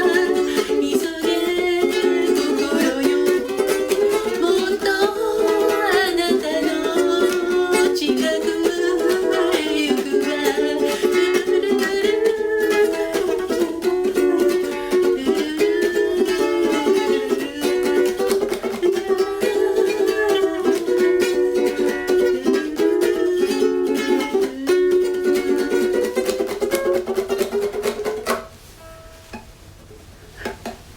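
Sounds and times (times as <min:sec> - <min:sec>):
ukulele strummed and picked: 0:00.0 - 0:29.6.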